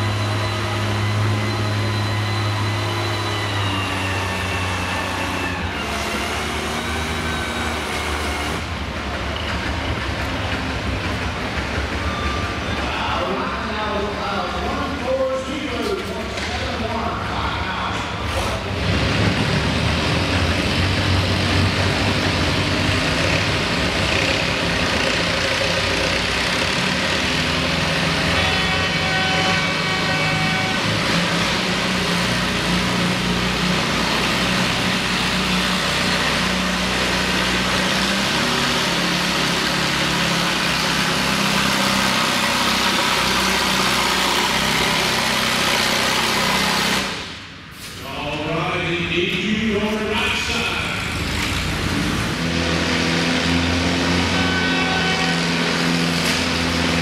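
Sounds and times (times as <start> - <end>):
tractor engine running hard: 0.0 - 16.9, 17.9 - 47.8, 50.2 - 57.0.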